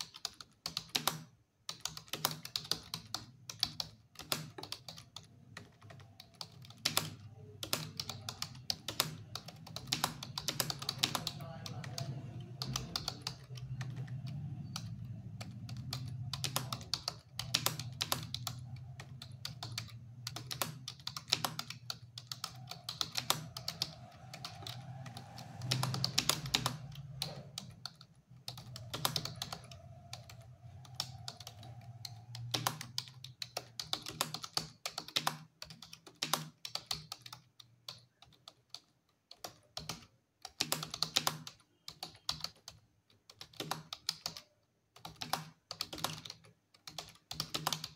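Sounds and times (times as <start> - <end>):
fast keyboard typing: 0.0 - 47.9.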